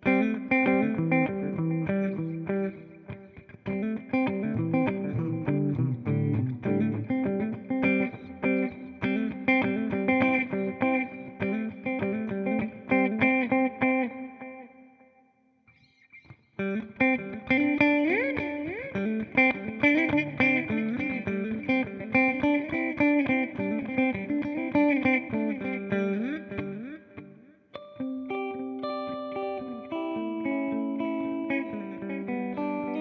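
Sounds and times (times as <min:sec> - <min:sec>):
electric guitar with delay: 0:00.0 - 0:33.0.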